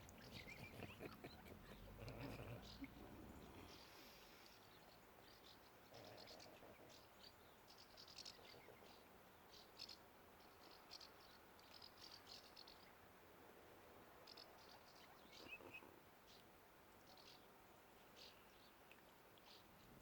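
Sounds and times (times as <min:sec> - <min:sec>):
small birds chirping: 0:00.0 - 0:13.1, 0:14.2 - 0:20.0.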